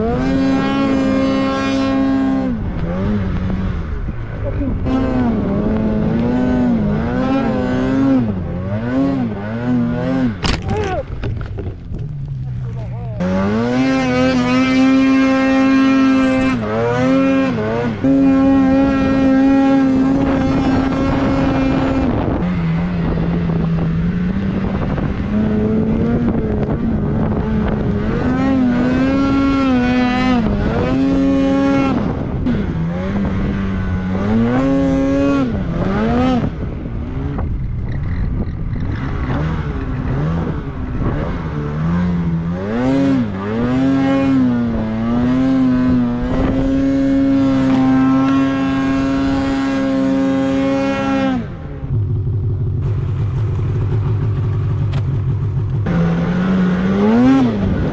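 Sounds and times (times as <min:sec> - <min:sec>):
snowmobile engine revving: 0:00.0 - 0:11.5, 0:12.1 - 0:57.9.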